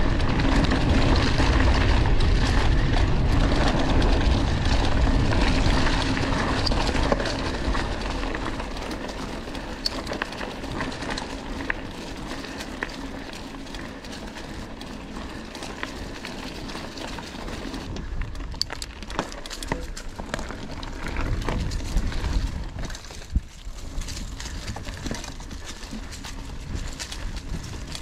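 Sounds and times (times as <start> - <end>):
bike clicks and rattles: 0.0 - 28.0
bike tyres rolling on trail: 0.0 - 28.0.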